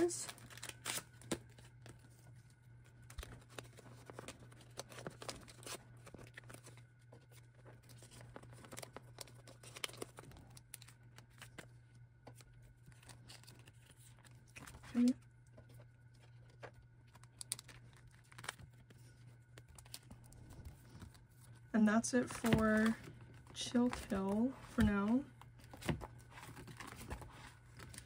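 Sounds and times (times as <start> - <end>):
plastic rustling and crinkling: 0.0 - 28.0.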